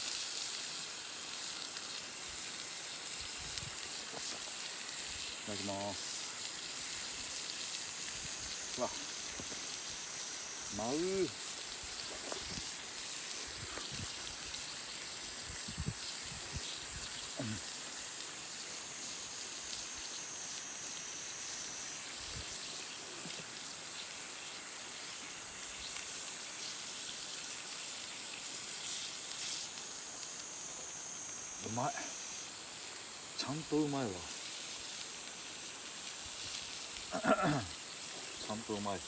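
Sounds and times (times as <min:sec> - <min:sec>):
faint fire crackles: 0:00.0 - 0:39.0
steak sizzling on a grill: 0:00.0 - 0:39.0.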